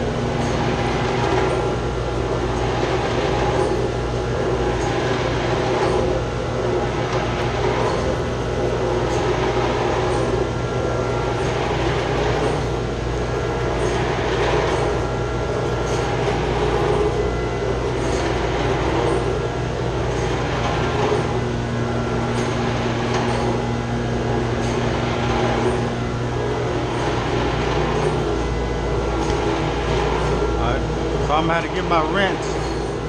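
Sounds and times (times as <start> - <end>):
pump mechanical drone: 0.0 - 33.0
pump noisy surge: 0.0 - 33.0.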